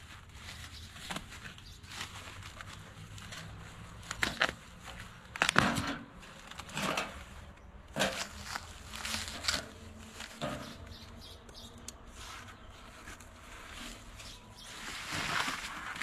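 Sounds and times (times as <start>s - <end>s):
plastic wrap rustling and crinkling: 0.0s - 10.9s, 12.0s - 16.0s.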